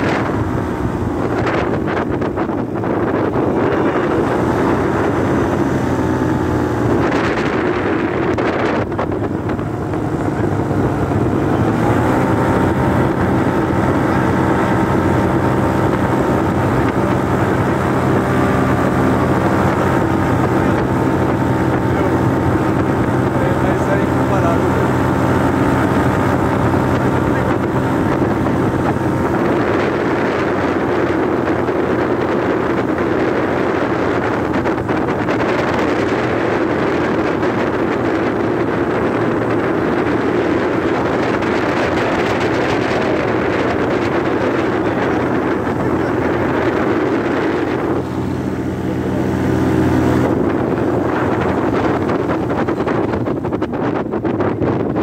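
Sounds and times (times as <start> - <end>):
engine and propeller drone: 0.0 - 55.0
wind buffeting microphone: 0.0 - 55.0.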